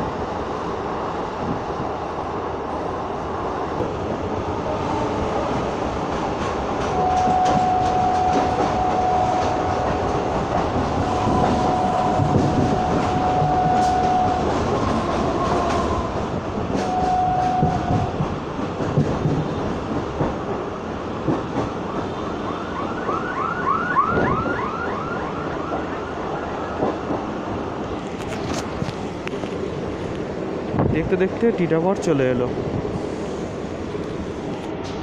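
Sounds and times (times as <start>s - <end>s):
train running rumble and rattle: 0.0s - 35.0s.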